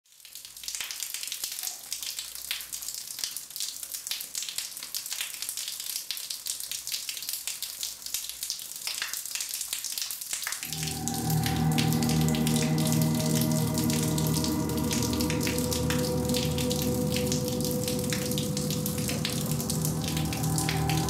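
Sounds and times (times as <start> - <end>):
crackling hiss with clicks and pops: 0.1 - 21.0.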